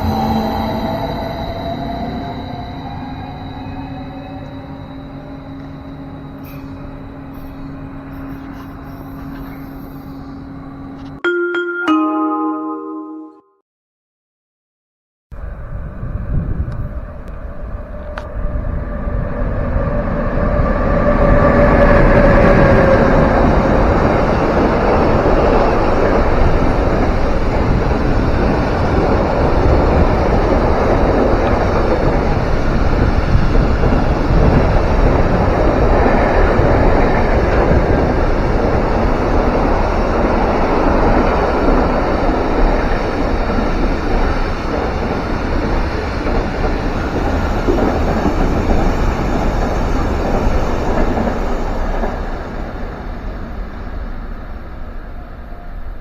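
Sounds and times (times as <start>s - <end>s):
train passing on rails: 0.0s - 12.3s, 15.4s - 56.0s.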